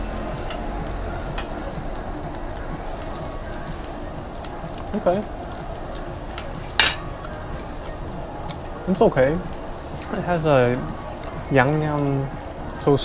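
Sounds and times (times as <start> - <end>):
meat sizzling on grill: 0.0 - 13.0.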